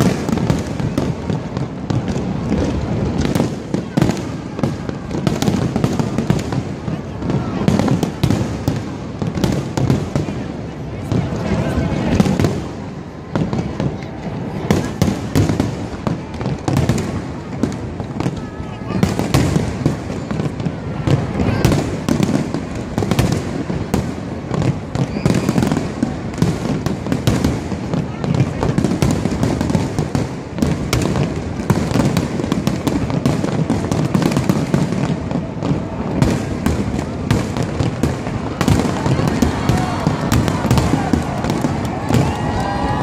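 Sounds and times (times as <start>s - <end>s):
fireworks bangs: 0.0s - 43.0s.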